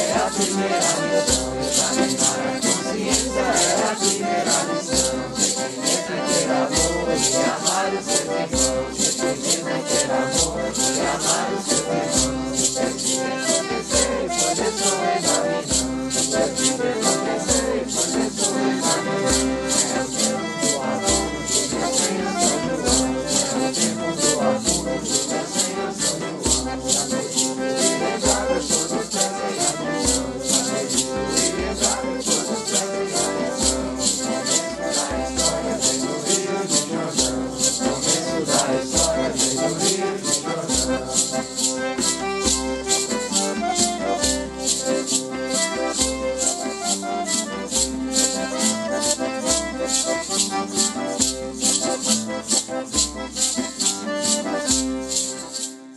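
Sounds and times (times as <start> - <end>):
group singing a hymn: 0.0 - 47.3
maracas shaking: 0.0 - 55.9.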